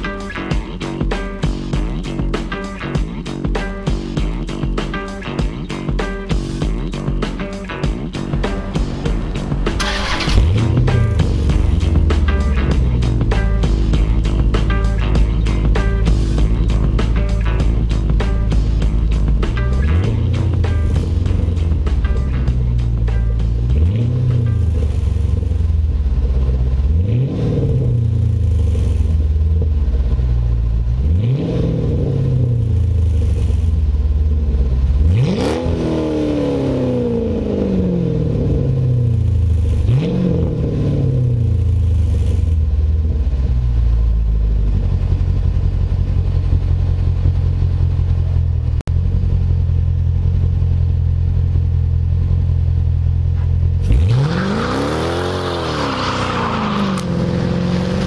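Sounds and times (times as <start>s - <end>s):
car engine revving and idling: 0.0s - 58.0s.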